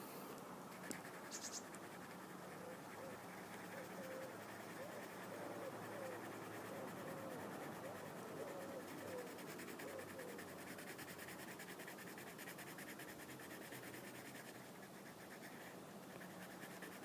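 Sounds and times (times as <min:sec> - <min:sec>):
coloured pencil scratching paper: 0:00.7 - 0:17.0.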